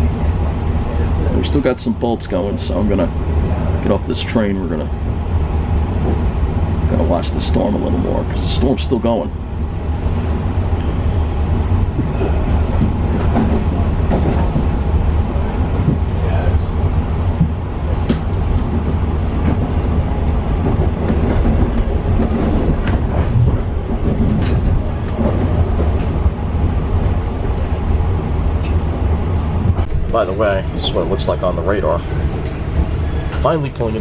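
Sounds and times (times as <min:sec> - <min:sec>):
train rumbling inside car: 0:00.0 - 0:34.0.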